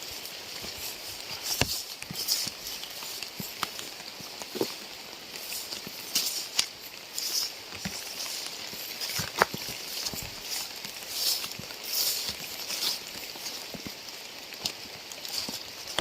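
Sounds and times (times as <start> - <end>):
rain hissing: 0.0 - 16.0
raindrops tapping: 0.0 - 16.0.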